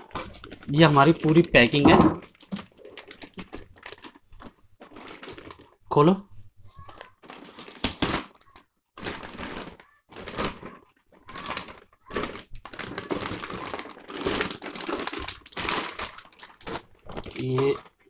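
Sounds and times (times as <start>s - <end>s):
plastic bag crinkling: 0.0s - 6.0s, 6.8s - 18.0s.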